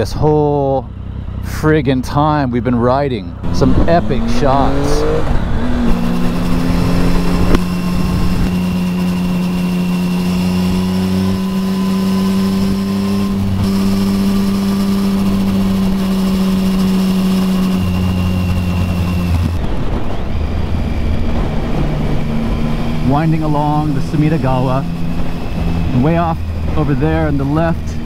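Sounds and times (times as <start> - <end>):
motorcycle engine cruising: 0.0 - 28.0
wind and road noise: 0.0 - 28.0.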